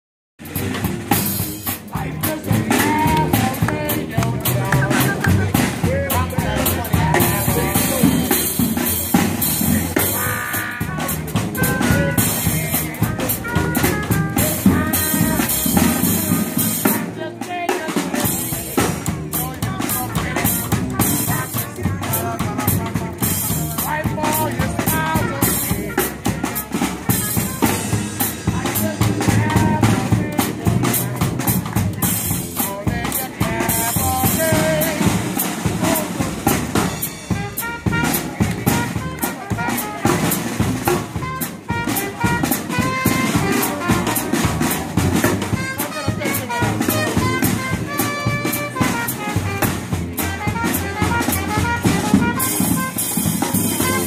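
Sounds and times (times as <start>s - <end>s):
bass drum and snare beat: 0.4s - 54.0s
brass band playing: 0.4s - 54.0s.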